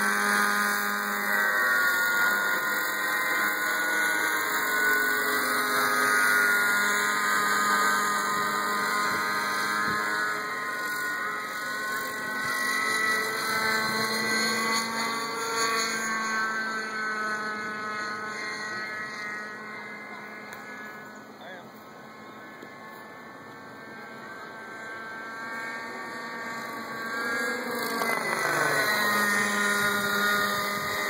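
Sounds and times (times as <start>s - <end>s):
model helicopter engine whine: 0.0s - 31.0s.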